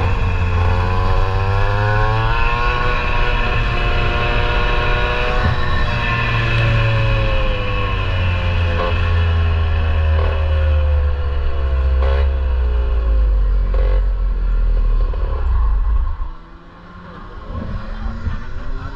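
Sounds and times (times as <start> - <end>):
kart engine running: 0.0 - 18.9.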